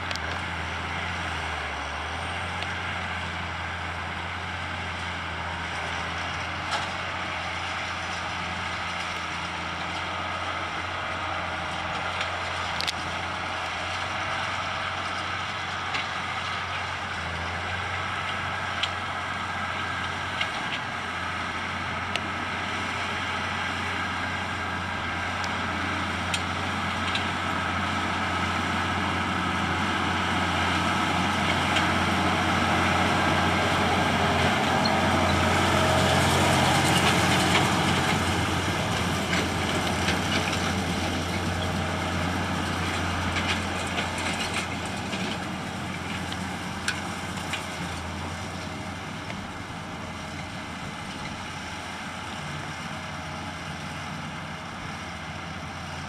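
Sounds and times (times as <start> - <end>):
baler working noise: 0.0 - 56.0
tractor engine under load: 0.0 - 56.0.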